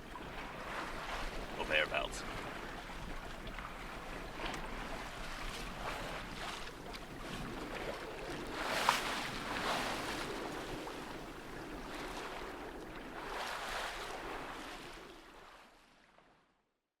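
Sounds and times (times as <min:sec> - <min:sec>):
sea water rushing: 0:00.0 - 0:15.2.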